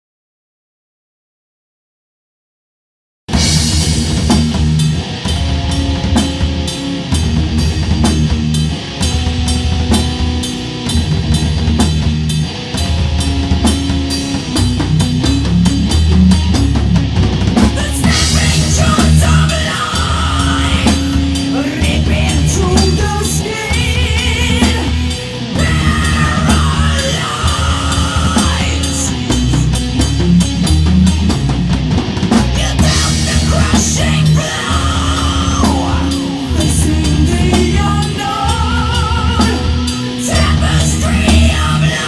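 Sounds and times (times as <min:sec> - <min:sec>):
heavy rock music: 0:03.3 - 0:42.0.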